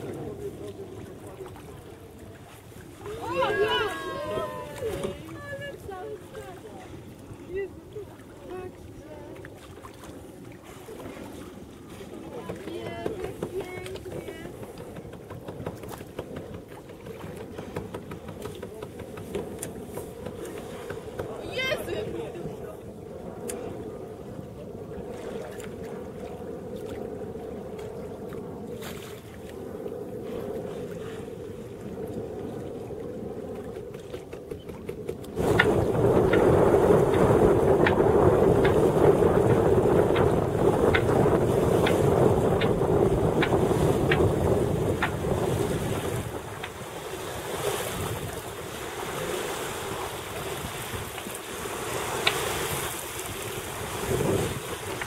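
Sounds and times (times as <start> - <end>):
wind and water rushing: 0.0 - 55.0.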